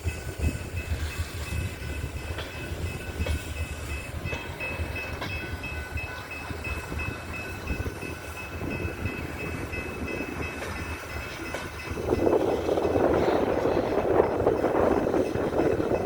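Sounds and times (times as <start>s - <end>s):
train rolling on tracks: 0.0s - 16.0s.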